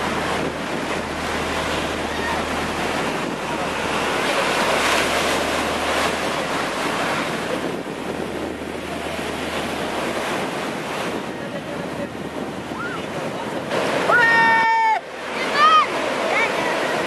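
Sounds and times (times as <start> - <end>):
ocean surf rushing on beach: 0.0 - 17.0
wind rumbling on microphone: 0.0 - 17.0.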